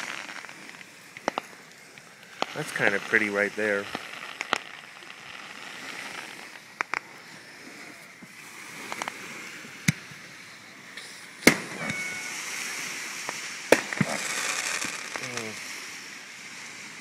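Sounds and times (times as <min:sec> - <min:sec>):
distant fireworks bangs: 0:00.0 - 0:16.2
steady hiss: 0:00.0 - 0:17.0.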